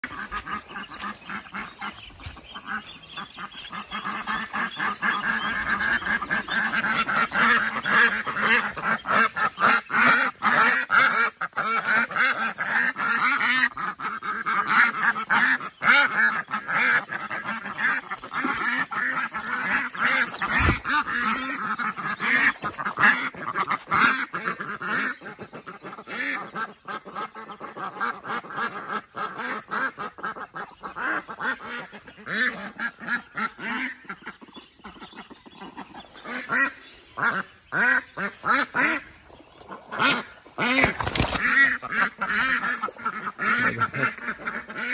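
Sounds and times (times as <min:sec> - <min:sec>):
ducks quacking: 0:00.0 - 0:44.9.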